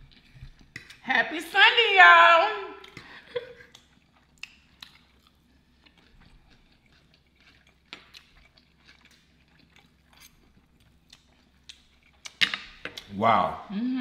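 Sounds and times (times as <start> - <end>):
chewing: 0.0 - 1.0, 2.8 - 13.1.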